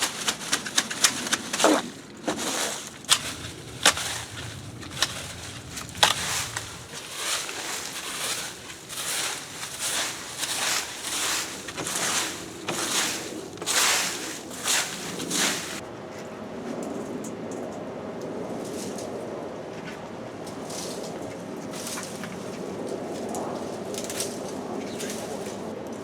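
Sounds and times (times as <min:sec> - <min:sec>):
leaves rustling swishes: 0:00.0 - 0:15.8, 0:20.5 - 0:25.8.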